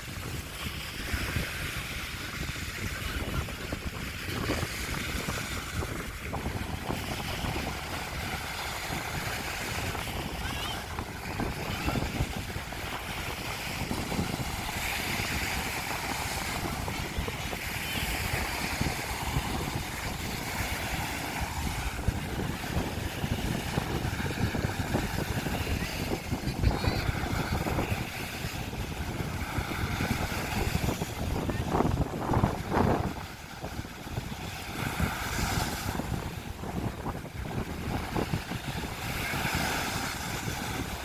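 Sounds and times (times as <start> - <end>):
sea waves rushing: 0.0 - 41.0
wind buffeting microphone: 0.0 - 41.0.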